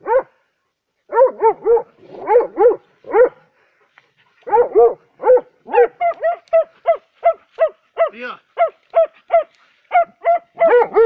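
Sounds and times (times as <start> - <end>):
dog barking loudly: 0.0 - 0.3, 1.1 - 3.4, 4.4 - 11.0.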